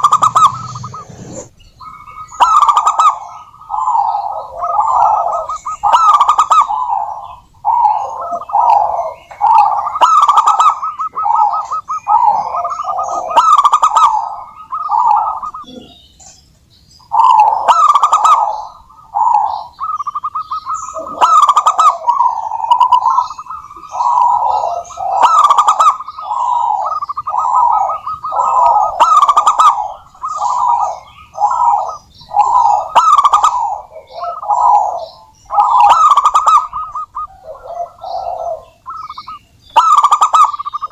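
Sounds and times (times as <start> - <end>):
dove cooing: 0.0 - 16.4, 17.0 - 40.9.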